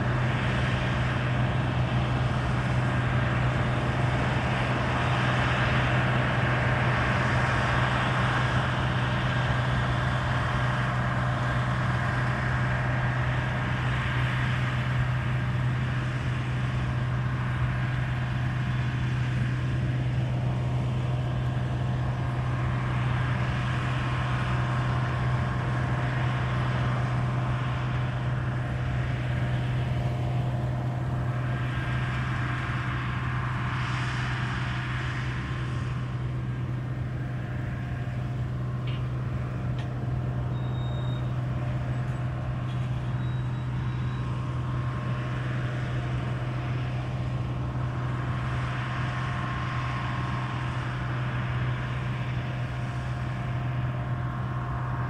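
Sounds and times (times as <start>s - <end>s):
combine harvester engine hum: 0.0s - 55.0s
harvesting machinery noise: 0.0s - 55.0s.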